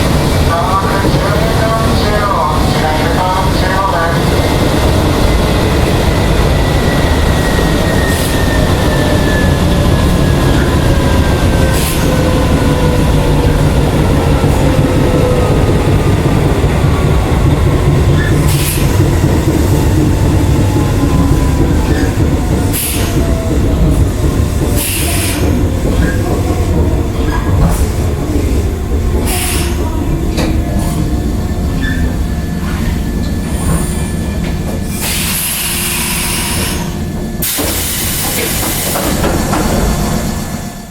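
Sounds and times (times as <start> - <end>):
wheel and track noise: 0.0 - 36.7.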